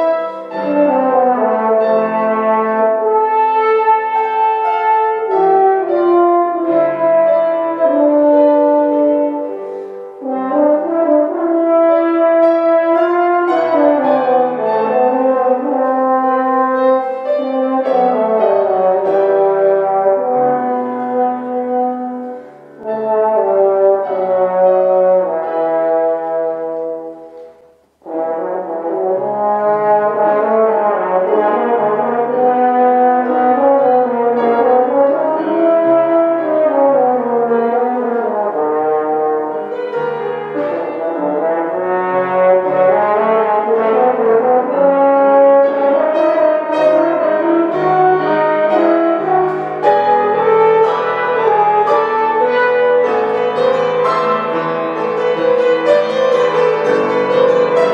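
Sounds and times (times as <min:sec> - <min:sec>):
solo brass melody: 0:00.0 - 0:57.9.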